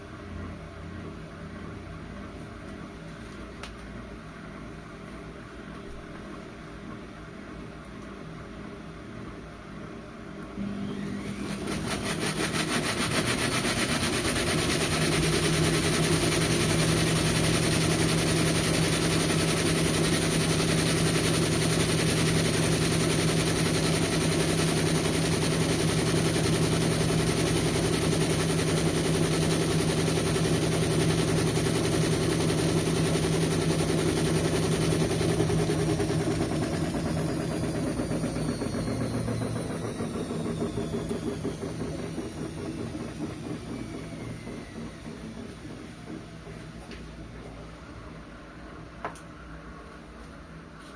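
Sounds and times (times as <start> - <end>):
washing machine motor hum: 0.0 - 50.9.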